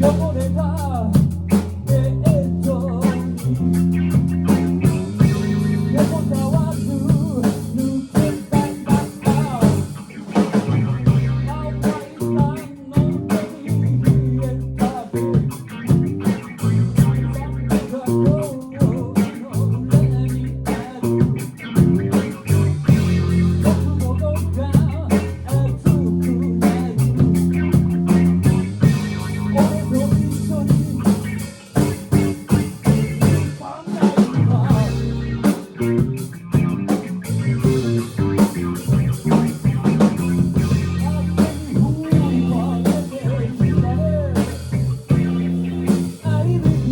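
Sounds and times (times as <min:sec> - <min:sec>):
heavy low bass notes: 0:00.0 - 0:46.9
rapid drum kit hits: 0:00.0 - 0:46.9
rock band playing live: 0:00.0 - 0:46.9.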